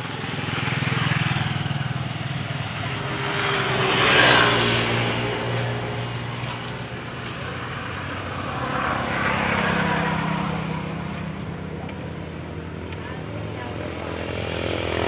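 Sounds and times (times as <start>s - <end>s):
traffic engine hum: 0.0s - 15.0s
vehicle passing by: 0.0s - 15.0s.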